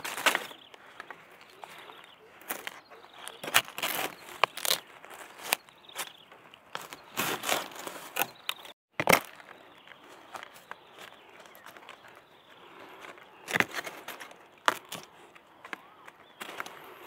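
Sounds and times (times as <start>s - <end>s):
dry leaves and twigs crunching: 0.0s - 17.0s.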